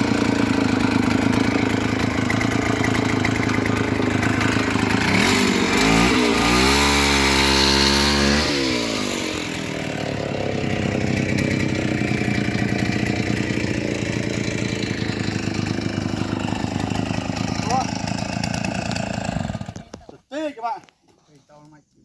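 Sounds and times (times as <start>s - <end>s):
engine revving and idling: 0.0s - 19.9s.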